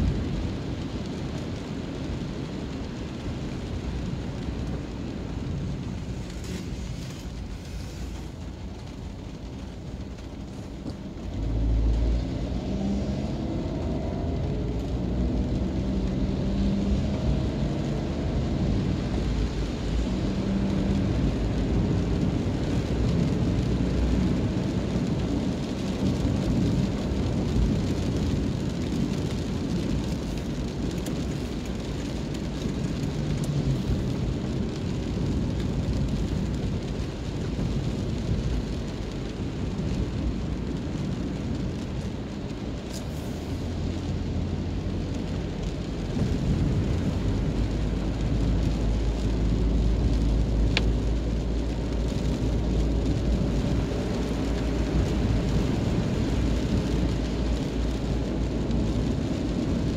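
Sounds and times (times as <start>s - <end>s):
car engine and road rumble: 0.0s - 59.9s
rain on windscreen: 0.0s - 59.9s
tyres hissing on wet asphalt: 0.0s - 59.9s.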